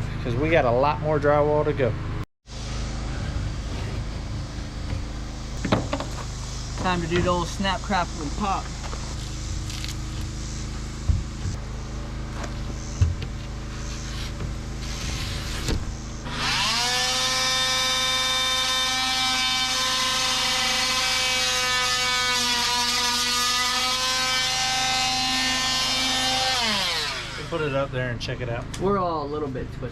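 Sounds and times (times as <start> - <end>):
power tool motor whining: 2.6 - 28.0.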